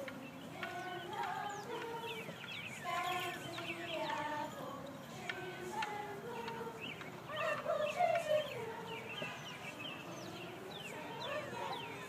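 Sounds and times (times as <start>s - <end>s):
children chattering and calling: 0.0s - 12.0s.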